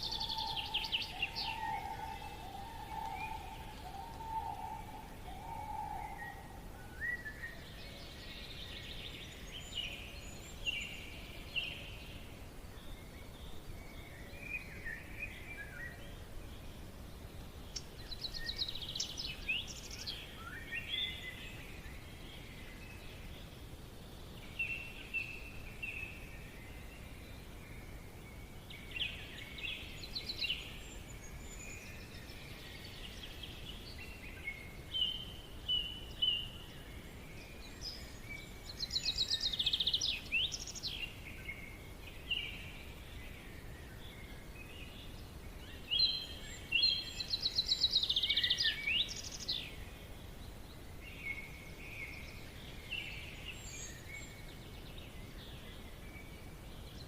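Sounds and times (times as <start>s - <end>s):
birds singing and trilling: 0.0s - 57.0s
low background hiss: 0.0s - 57.0s.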